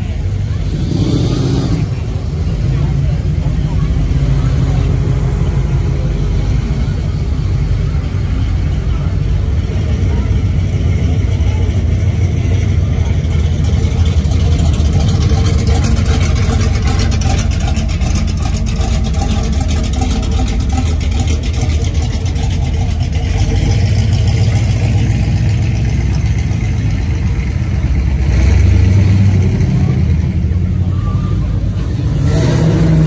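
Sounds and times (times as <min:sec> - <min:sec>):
cars driving slowly past: 0:00.0 - 0:33.0
crowd voices: 0:00.0 - 0:33.0.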